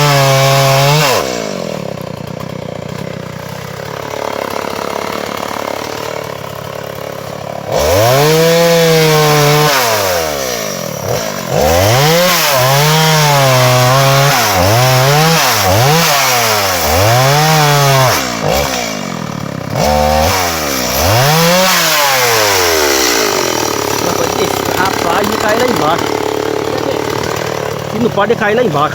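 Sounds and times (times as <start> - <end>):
chainsaw revving and cutting: 0.0 - 28.9.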